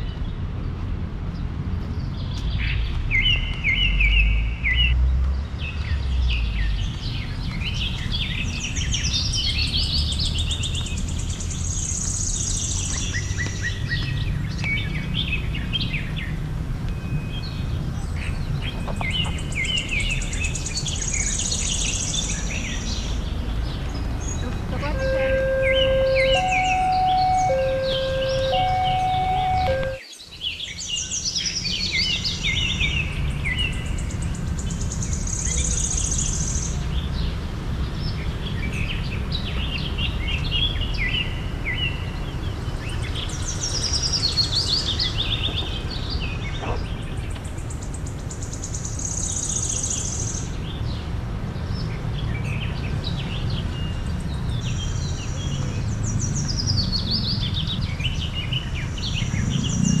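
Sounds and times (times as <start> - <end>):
songbirds chirping and trilling: 0.0 - 60.0.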